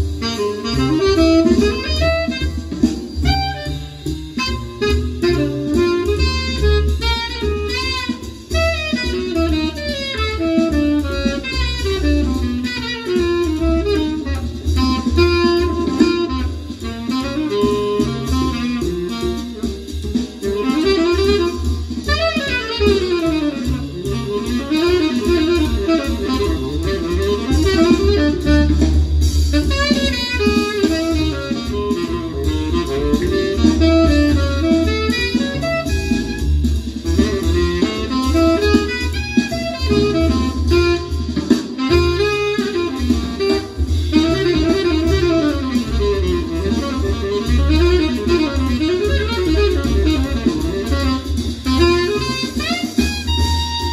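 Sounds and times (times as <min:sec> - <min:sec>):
jazz over loudspeakers: 0:00.0 - 0:53.9.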